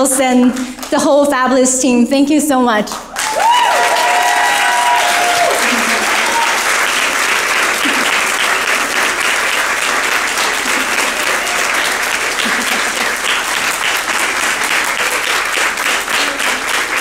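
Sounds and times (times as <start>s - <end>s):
audience applauding: 3.1s - 17.0s.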